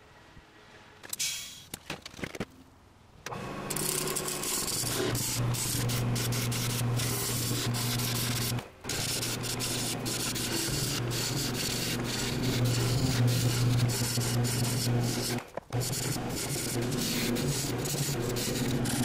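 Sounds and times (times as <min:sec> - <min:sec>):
lathe motor hum: 0:03.3 - 0:19.0
gouge scraping spinning resin: 0:03.7 - 0:19.0.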